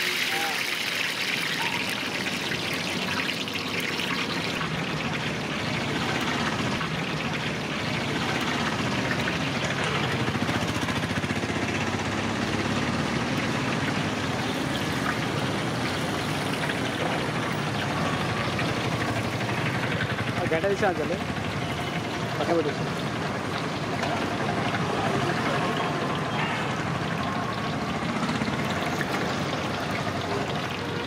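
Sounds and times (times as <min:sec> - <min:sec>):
hot oil sizzling and crackling: 0:00.0 - 0:30.9.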